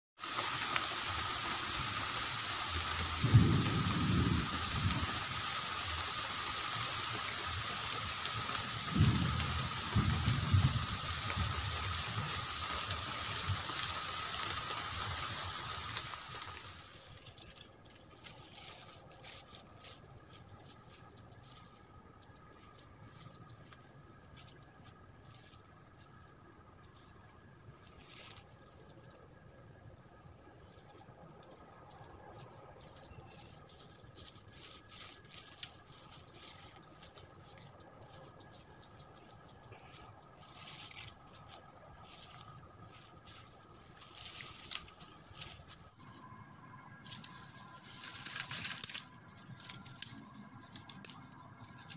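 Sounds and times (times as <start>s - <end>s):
grass rustling: 0.2s - 26.1s, 30.9s - 51.9s
insect buzzing: 0.2s - 51.9s
insects trilling: 0.2s - 51.9s.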